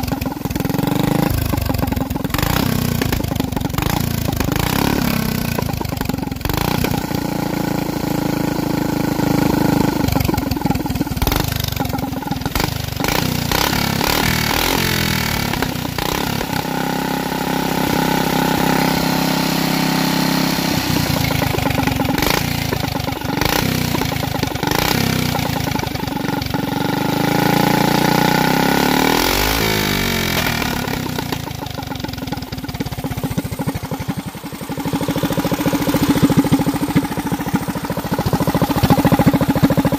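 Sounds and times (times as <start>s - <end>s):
single-cylinder engine revving: 0.0s - 39.9s.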